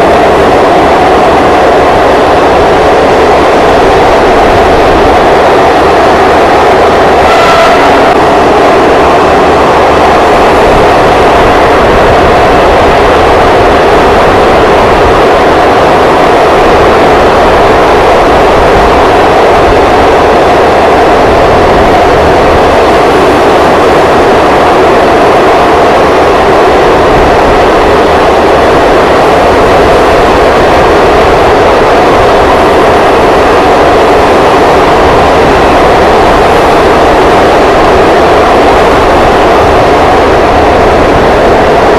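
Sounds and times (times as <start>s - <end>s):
train rushing through tunnel: 0.0s - 41.9s.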